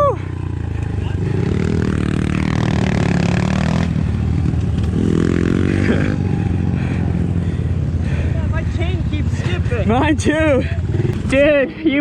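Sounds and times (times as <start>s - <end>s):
motorbike engine revving: 0.0s - 11.7s.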